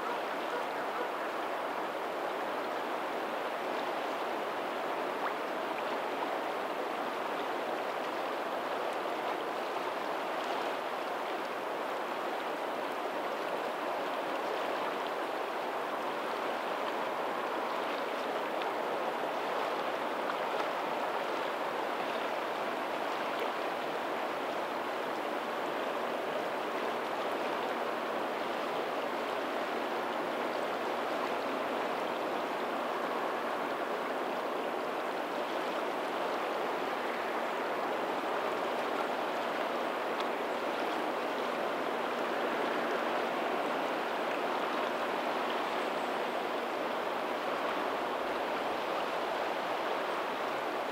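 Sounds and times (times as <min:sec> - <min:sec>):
water rushing and splashing: 0:00.0 - 0:50.9.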